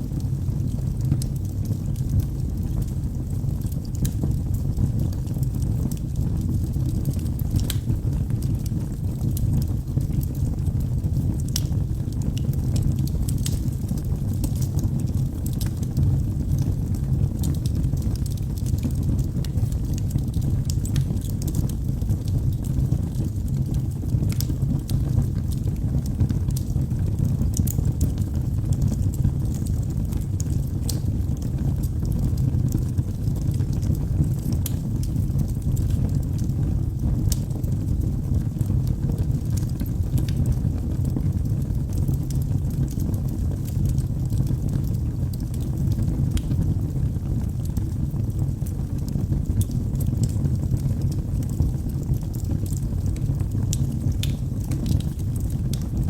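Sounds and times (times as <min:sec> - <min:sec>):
wood crackling and popping: 0:00.1 - 0:56.0.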